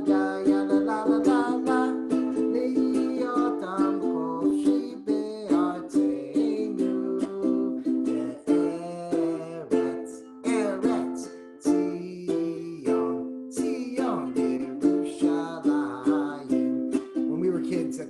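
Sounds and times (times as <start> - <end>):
ukulele strumming chords: 0.0 - 18.0.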